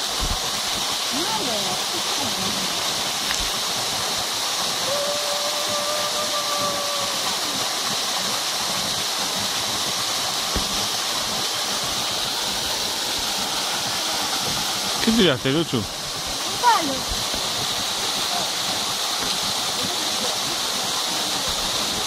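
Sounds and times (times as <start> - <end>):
waterfall splashing into pool: 0.0 - 22.0.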